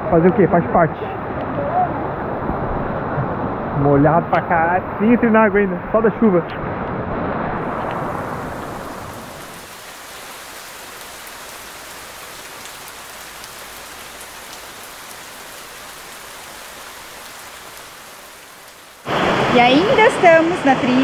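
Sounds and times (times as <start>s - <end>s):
heavy rain falling: 4.2s - 21.0s.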